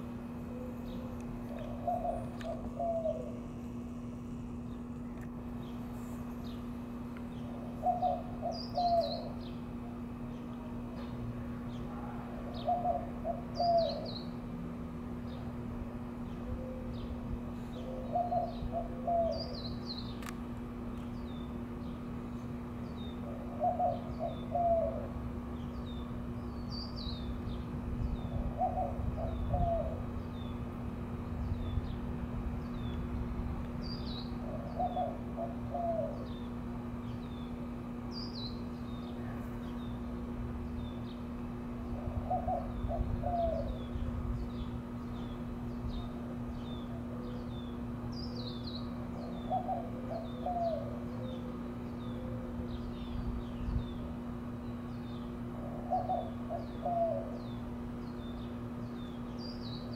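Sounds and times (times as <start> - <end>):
steady low hum: 0.0 - 59.9
doves cooing: 0.2 - 5.6, 6.4 - 15.2, 16.0 - 20.1, 23.1 - 26.3, 28.0 - 30.9, 34.0 - 40.1, 41.0 - 54.6, 55.2 - 59.3.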